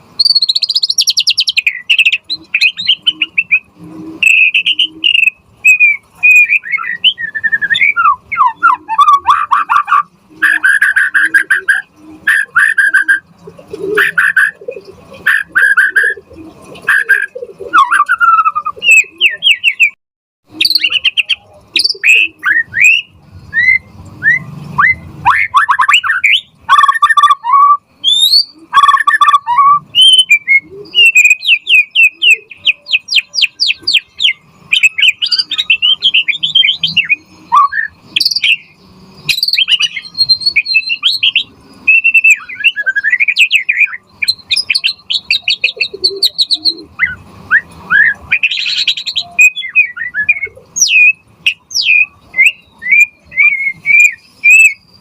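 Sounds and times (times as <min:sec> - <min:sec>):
songbird singing varied whistles: 0:00.1 - 0:55.0.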